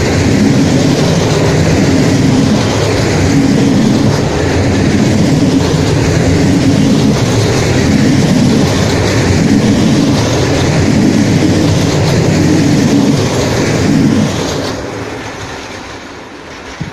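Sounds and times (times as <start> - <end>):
freight train wheels rumbling on rail: 0.0 - 16.9.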